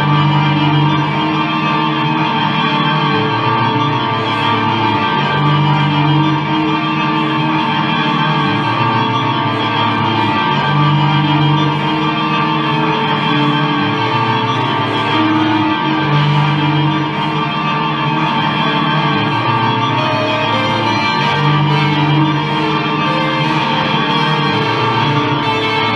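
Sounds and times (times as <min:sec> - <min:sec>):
low swelling note: 0:00.0 - 0:25.9
sustained drone layers with echo: 0:00.0 - 0:25.9.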